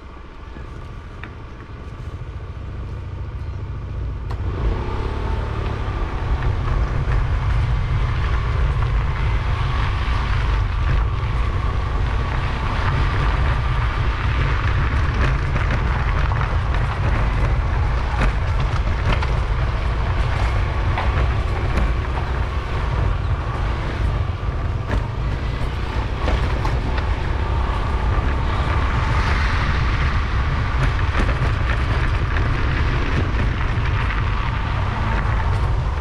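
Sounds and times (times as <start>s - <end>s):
scooter engine hum: 0.0s - 36.0s
wind rumble on microphone: 0.0s - 36.0s.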